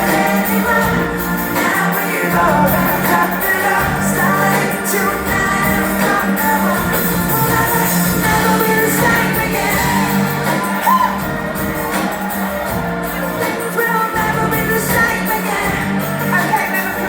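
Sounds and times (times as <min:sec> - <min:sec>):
live pop band: 0:00.0 - 0:17.0
woman singing lead: 0:00.0 - 0:17.0.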